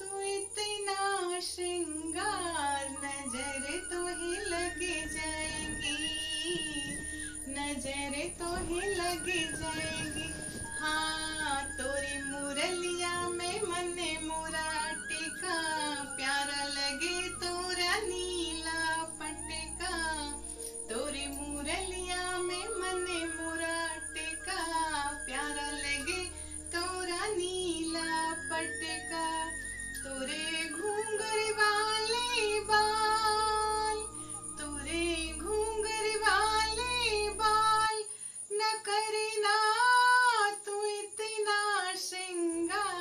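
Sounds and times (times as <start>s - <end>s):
woman singing devotional song: 0.0s - 43.0s
low musical accompaniment: 1.3s - 37.9s.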